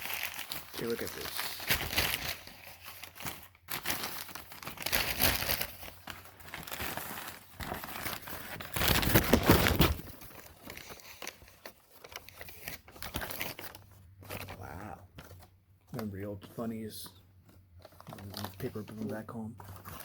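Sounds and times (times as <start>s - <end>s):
paper crumpling and rustling: 0.0s - 20.0s.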